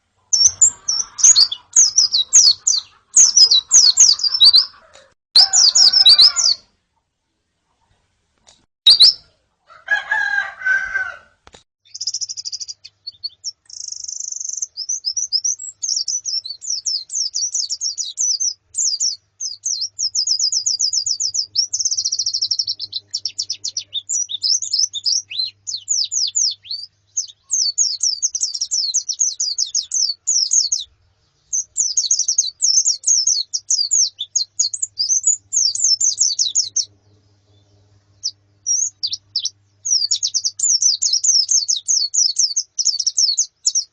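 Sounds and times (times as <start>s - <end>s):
lower bird call: 0.0s - 6.7s, 10.1s - 43.9s
small birds chirping and twittering: 0.0s - 6.7s, 7.5s - 9.5s, 11.8s - 43.9s.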